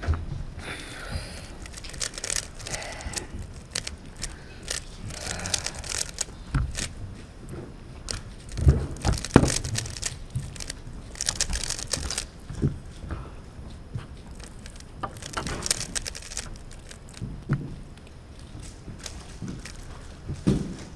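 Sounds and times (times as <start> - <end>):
light clicks and rustles of handling: 1.4 - 20.9.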